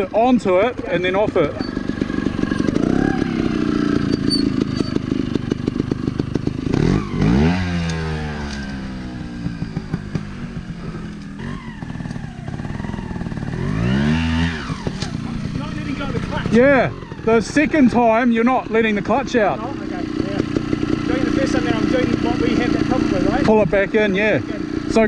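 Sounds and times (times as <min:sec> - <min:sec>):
motorcycle engine puttering: 0:00.0 - 0:25.0
motorcycle engine revving: 0:00.0 - 0:25.0.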